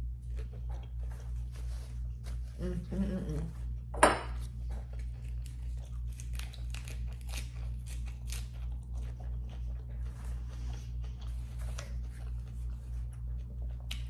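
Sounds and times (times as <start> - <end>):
crunchy chewing and mouth sounds: 0.0 - 14.0
steady low hum: 0.0 - 14.0.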